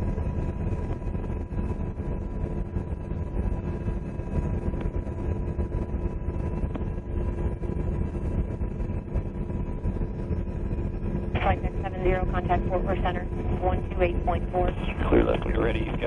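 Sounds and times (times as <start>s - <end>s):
faint constant hums: 0.0s - 16.0s
helicopter rotor and engine drone: 0.0s - 16.0s.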